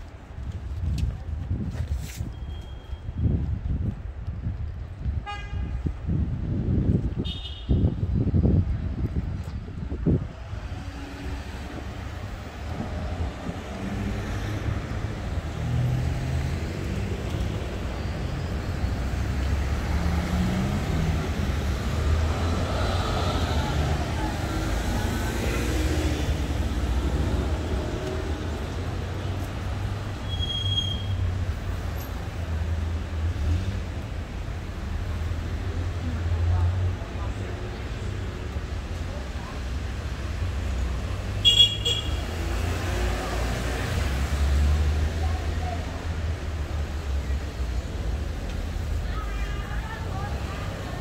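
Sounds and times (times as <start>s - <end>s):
cars passing on road: 0.0s - 51.0s.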